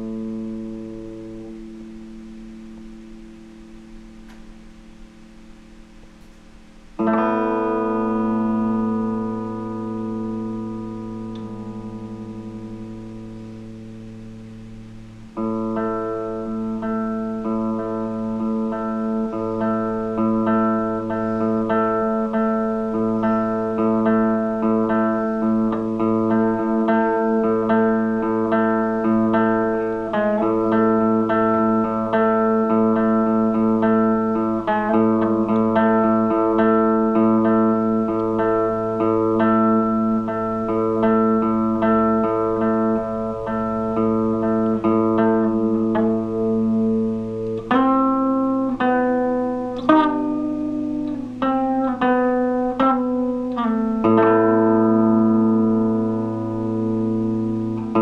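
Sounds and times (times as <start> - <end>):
solo electric guitar: 0.0 - 58.0.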